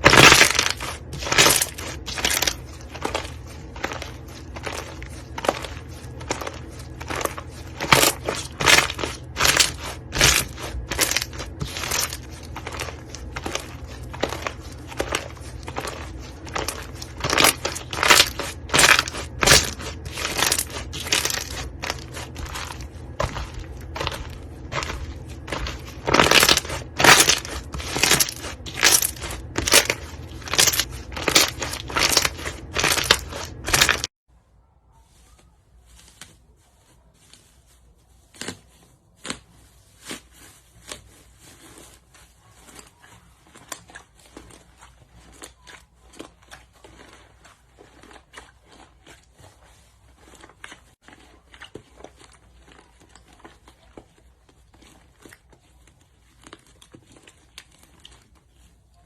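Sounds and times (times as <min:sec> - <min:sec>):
slime squishing and crackling: 0:00.0 - 0:34.2, 0:35.9 - 0:59.0.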